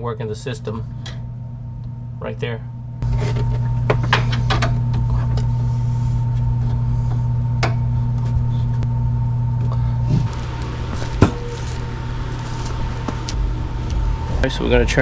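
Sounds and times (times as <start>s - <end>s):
air conditioner blower hum: 0.0s - 15.0s.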